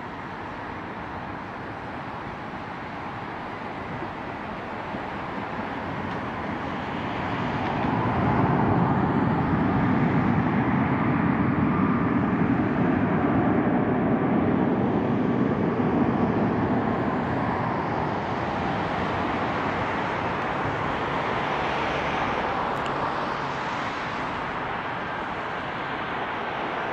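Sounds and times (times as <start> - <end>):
jet engine rumble: 0.0 - 26.9.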